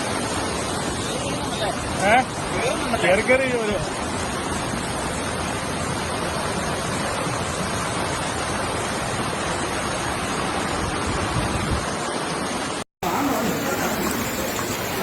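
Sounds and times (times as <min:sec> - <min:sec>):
river roaring: 0:00.0 - 0:15.0.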